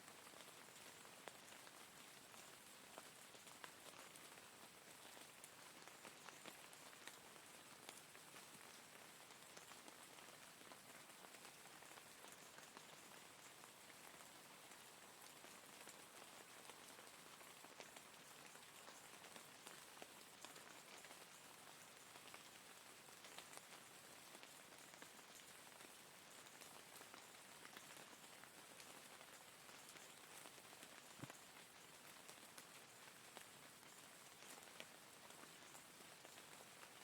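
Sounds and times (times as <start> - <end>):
soft rain falling: 0.0 - 37.0.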